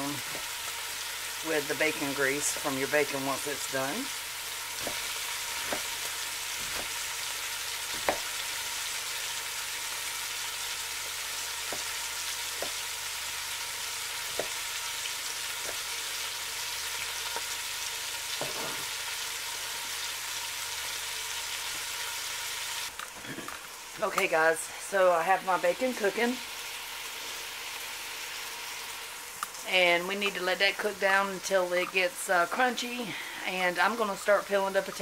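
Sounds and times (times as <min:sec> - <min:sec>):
bacon sizzling: 0:00.0 - 0:35.0.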